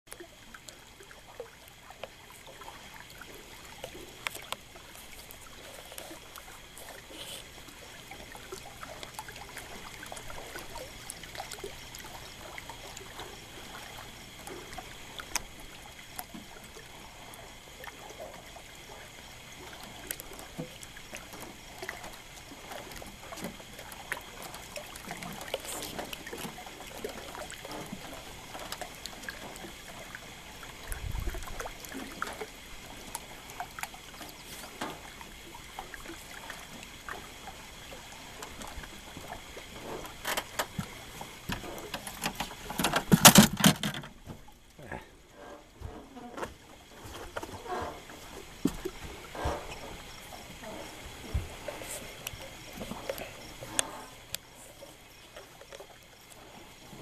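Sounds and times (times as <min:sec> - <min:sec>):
water lapping against boat hull: 0:00.1 - 0:57.0.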